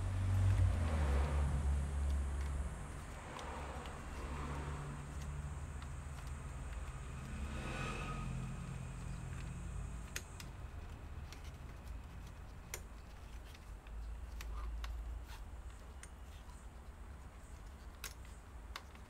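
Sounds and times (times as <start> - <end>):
laptop parts clicking and tapping: 1.6 - 19.0.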